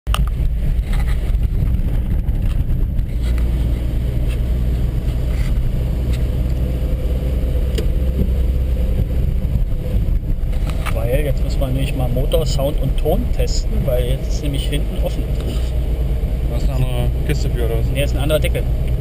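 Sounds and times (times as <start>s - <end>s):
car engine running: 0.1s - 19.0s.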